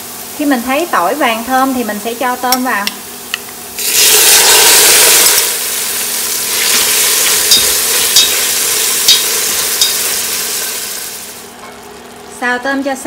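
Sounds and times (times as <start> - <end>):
shrimp sizzling in hot oil: 0.0 - 12.2.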